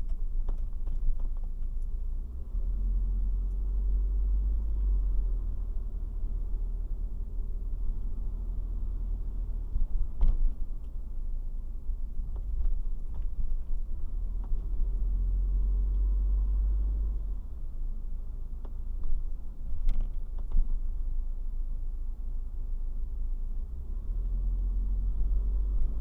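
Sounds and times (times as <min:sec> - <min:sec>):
car driving rumble: 0:00.0 - 0:26.0.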